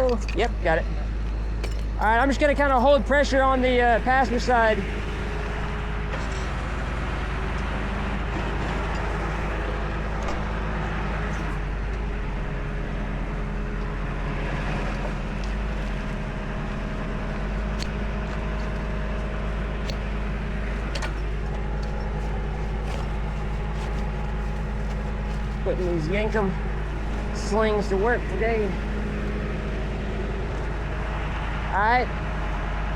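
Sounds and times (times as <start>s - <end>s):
truck engine running: 0.0s - 32.9s.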